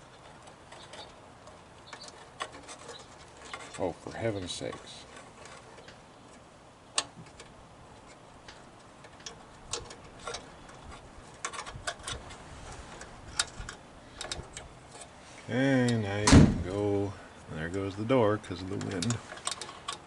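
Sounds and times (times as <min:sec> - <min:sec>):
small metal parts clicking: 0:00.0 - 0:16.4, 0:17.7 - 0:20.0.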